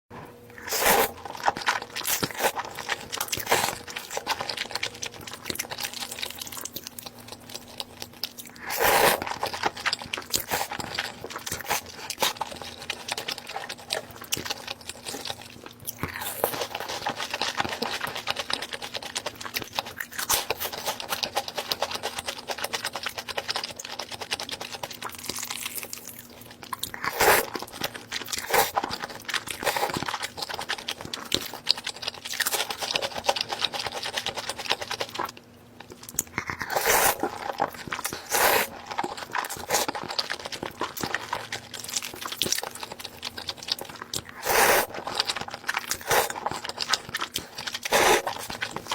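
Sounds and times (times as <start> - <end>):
person chewing and crunching: 0.5 - 48.9.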